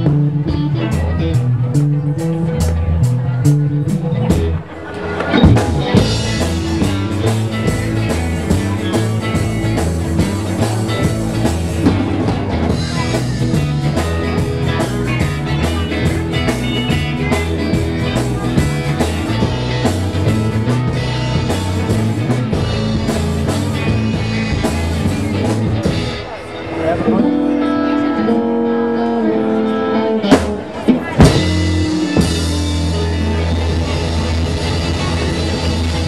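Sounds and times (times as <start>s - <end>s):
live blues-rock band: 0.0s - 36.0s.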